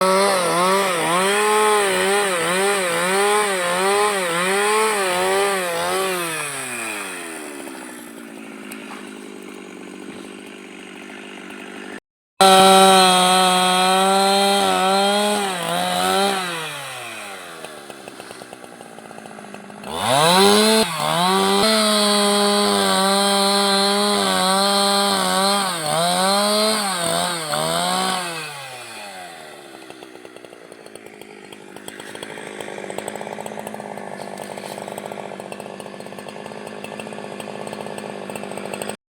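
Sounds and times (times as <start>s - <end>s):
chainsaw cutting wood: 0.0s - 39.0s.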